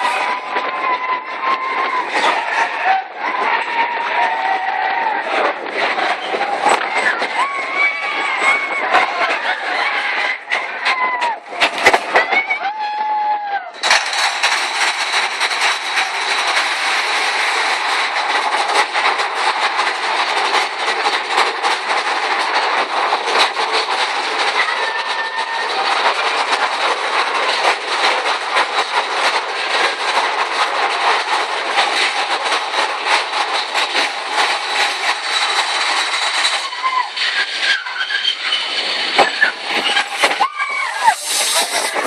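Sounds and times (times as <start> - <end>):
roller coaster cars rattling on rails: 0.0 - 42.0.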